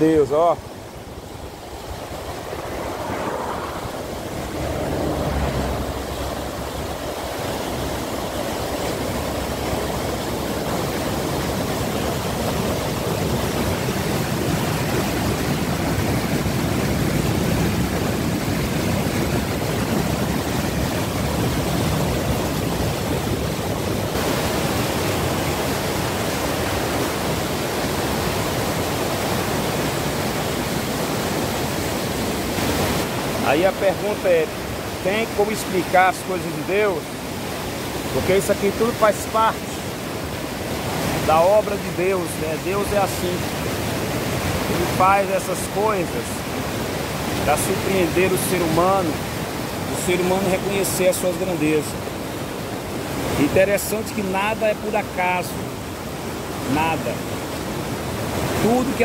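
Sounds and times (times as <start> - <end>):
floodwater rushing in rapids: 0.0 - 59.0.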